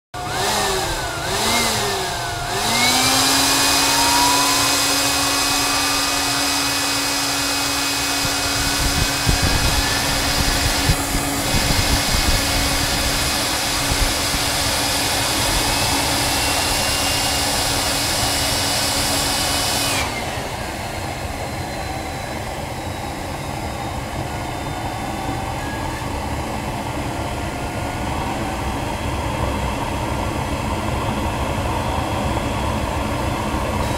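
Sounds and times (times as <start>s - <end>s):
electric blower whining: 0.2s - 33.9s
turbojet engine running: 0.2s - 33.9s.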